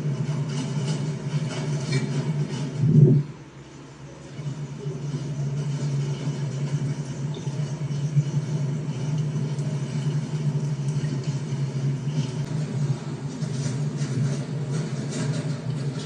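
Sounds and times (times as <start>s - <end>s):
motor vehicle engine rumble: 0.0s - 16.0s.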